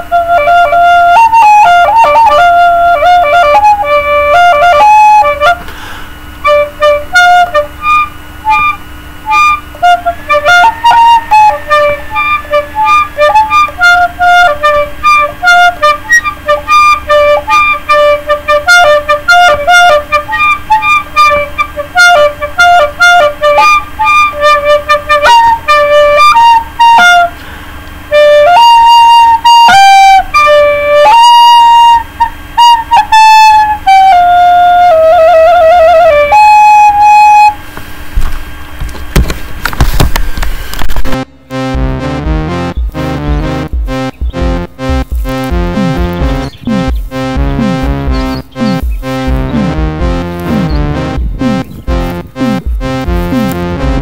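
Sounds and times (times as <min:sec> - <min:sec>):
recorder melody: 0:00.0 - 0:37.7, 0:40.8 - 0:54.0.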